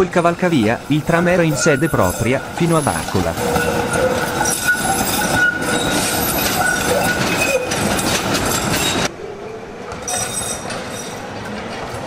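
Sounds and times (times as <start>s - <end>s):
tram wheels rumbling on rails: 0.0s - 12.0s
high-pitched tram whine: 0.2s - 12.0s.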